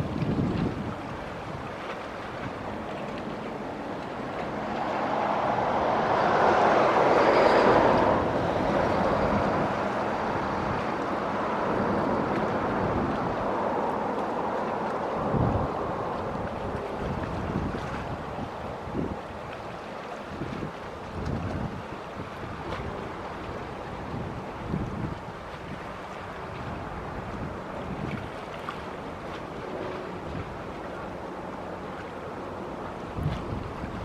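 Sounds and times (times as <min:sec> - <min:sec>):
wind on microphone: 0:00.0 - 0:32.0, 0:32.7 - 0:34.0
rushing water: 0:00.0 - 0:34.0.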